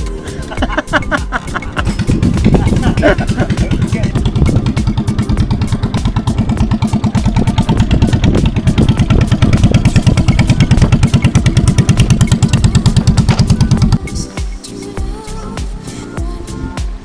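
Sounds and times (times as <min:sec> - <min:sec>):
combustion engine running: 0:00.0 - 0:14.3.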